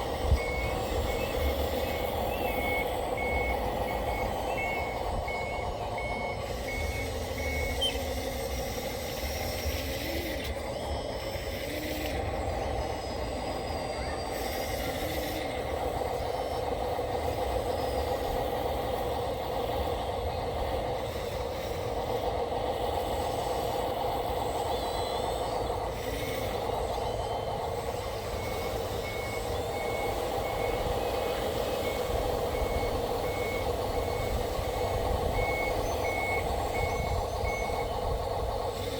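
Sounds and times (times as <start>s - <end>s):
mechanical drone of machine: 0.0s - 38.9s.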